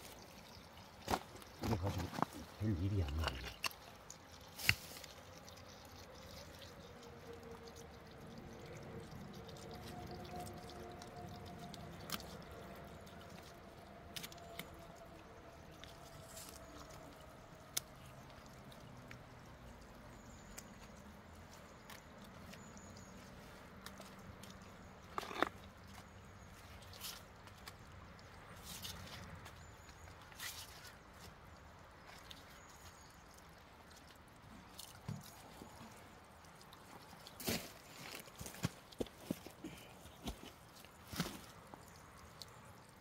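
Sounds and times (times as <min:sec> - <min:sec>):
water trickling and dripping: 0:00.0 - 0:43.0.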